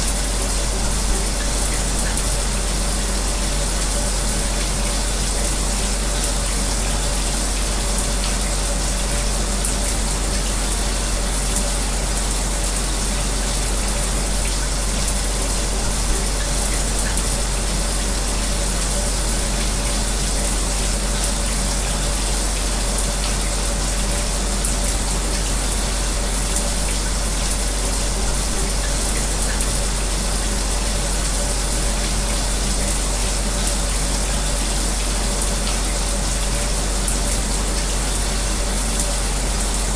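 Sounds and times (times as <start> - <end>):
electric fan running: 0.0 - 39.9
shower water spraying: 0.0 - 39.9.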